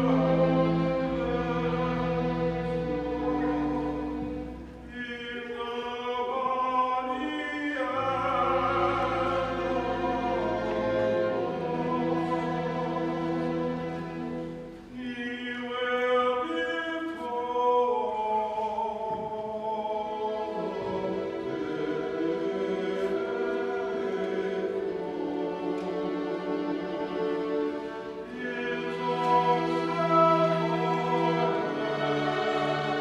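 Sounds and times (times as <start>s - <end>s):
classical-style singing: 0.0s - 33.0s.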